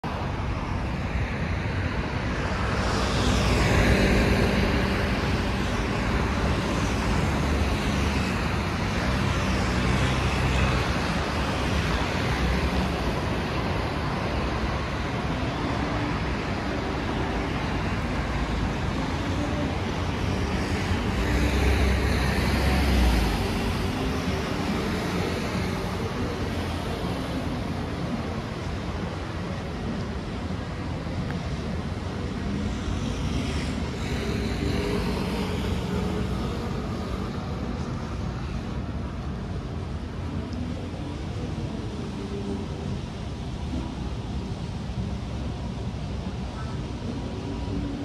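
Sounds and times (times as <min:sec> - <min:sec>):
city road traffic: 0:00.0 - 0:48.0
vehicles passing: 0:00.0 - 0:48.0.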